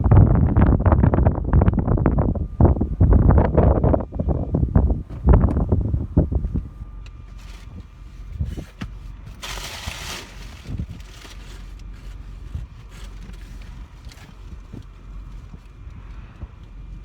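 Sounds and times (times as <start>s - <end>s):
car engine rumble: 0.0s - 17.0s
wind: 0.0s - 17.0s.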